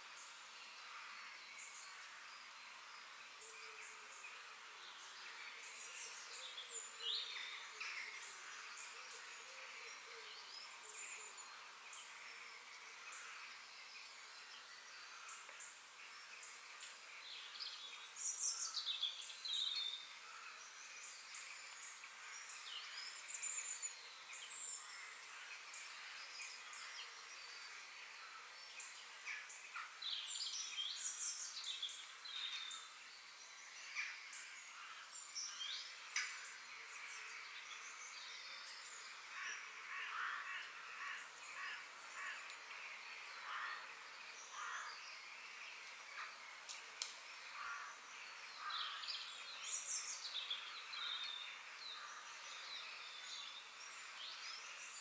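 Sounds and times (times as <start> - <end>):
faint background hiss: 0.0 - 55.0
wild birds chirping: 0.0 - 55.0.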